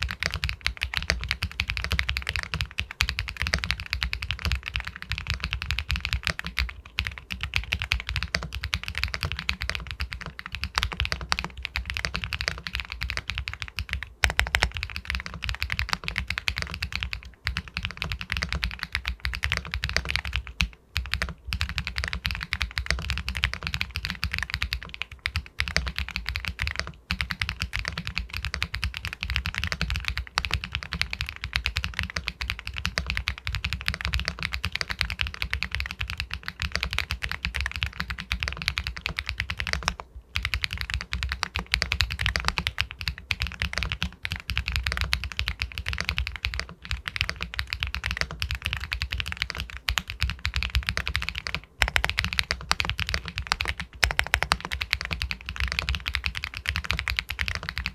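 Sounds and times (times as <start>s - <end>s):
mechanical keyboard typing: 0.0s - 57.9s.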